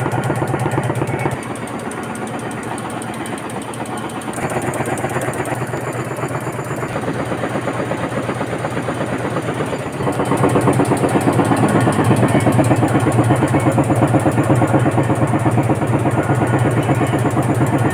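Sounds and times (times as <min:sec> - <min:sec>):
fast mechanical needle clatter: 0:00.0 - 0:17.9
low machine hum: 0:00.0 - 0:17.9.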